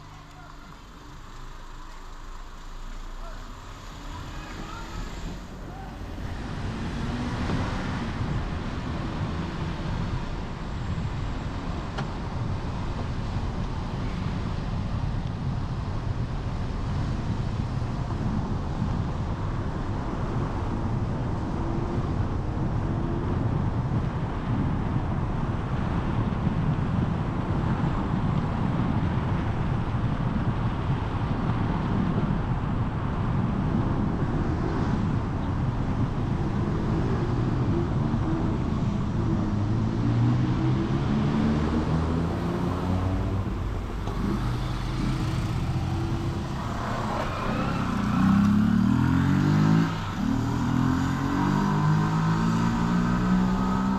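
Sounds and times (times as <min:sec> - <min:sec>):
car engine rumble: 0:00.0 - 0:53.9
tyre road noise: 0:00.0 - 0:53.9.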